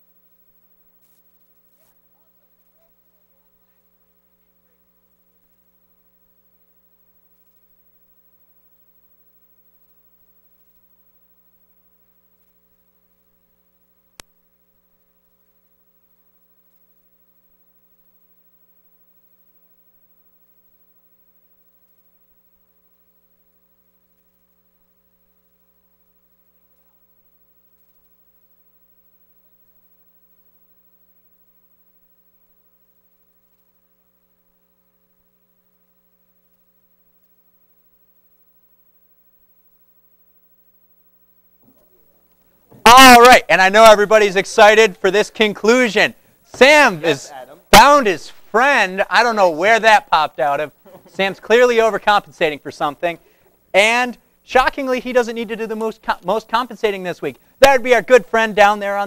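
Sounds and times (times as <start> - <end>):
faint mains hum: 0.0 - 59.0.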